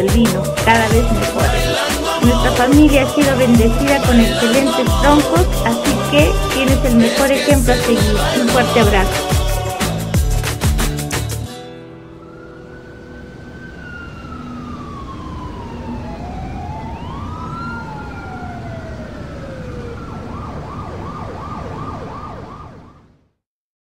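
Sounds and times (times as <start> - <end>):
emergency vehicle siren wailing: 0.0 - 9.5, 11.8 - 23.3.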